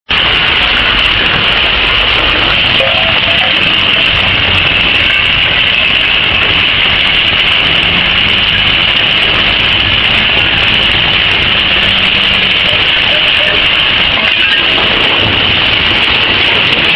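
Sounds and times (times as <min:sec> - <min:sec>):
heavy machinery running: 0:00.1 - 0:16.9.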